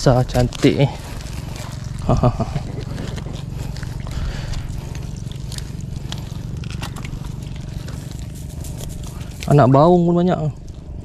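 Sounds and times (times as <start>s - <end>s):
steady low hum: 0.0s - 11.0s
small clicks and scrapes: 0.2s - 9.6s.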